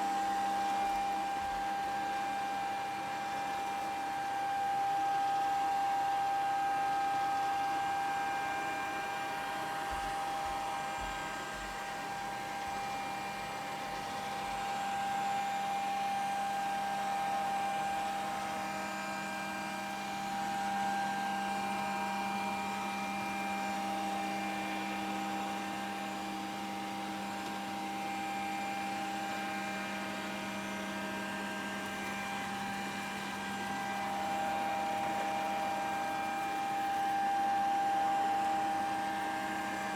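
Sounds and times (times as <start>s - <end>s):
robot vacuum cleaner running: 0.0s - 39.9s.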